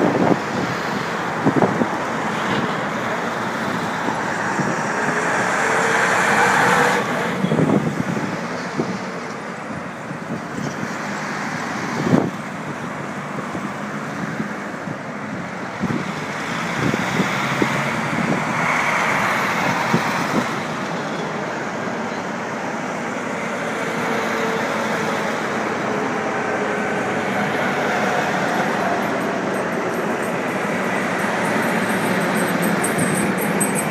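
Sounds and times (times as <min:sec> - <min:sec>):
trucks driving past: 0:00.0 - 0:33.9.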